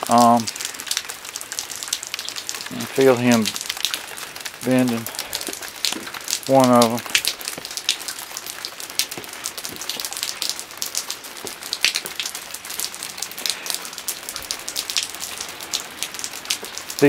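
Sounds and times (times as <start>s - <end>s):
rain on wooden decking: 0.0s - 17.0s.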